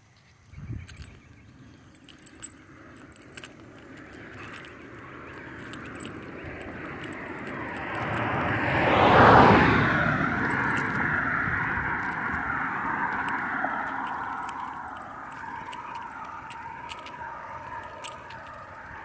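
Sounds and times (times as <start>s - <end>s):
vehicle driving past: 2.1s - 19.0s.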